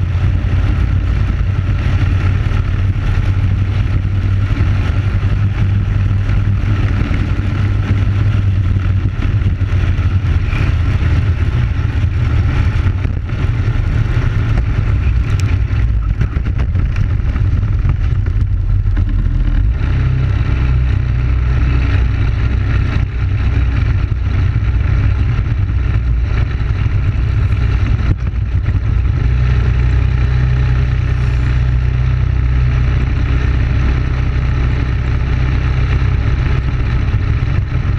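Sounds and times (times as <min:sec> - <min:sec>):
kart engine running: 0:00.0 - 0:37.9.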